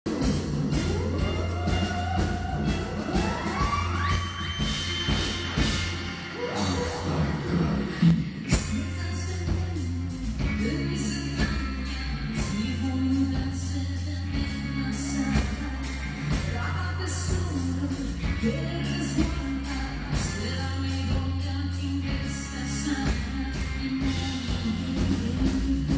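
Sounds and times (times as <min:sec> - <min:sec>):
bass notes: 0:00.0 - 0:25.9
drum kit with cymbals: 0:00.0 - 0:25.9
electric guitar: 0:00.1 - 0:25.9
woman singing: 0:00.7 - 0:05.4, 0:08.4 - 0:25.9.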